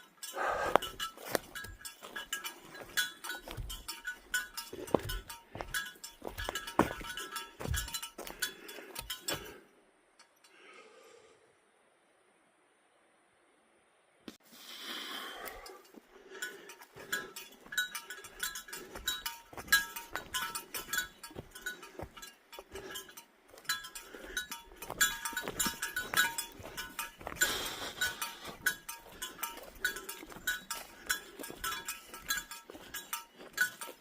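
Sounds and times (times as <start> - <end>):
footsteps on forest trail: 0.0 - 9.6, 14.7 - 34.0
light metallic jingle: 0.0 - 9.6, 15.6 - 34.0.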